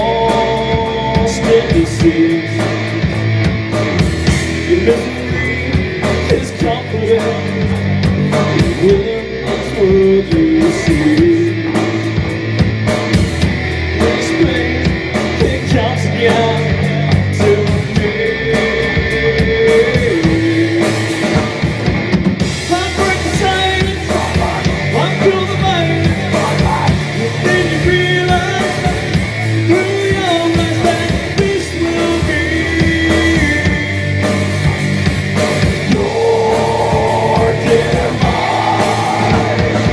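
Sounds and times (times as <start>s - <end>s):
lead vocal singing: 0.0s - 12.7s, 13.5s - 39.9s
drum kit: 0.0s - 39.9s
electric bass guitar: 0.0s - 39.9s
electric guitar: 0.0s - 39.9s.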